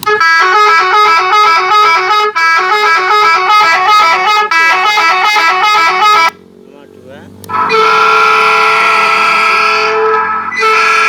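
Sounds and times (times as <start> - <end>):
musical vehicle horn melody: 0.0 - 6.4, 7.4 - 11.0.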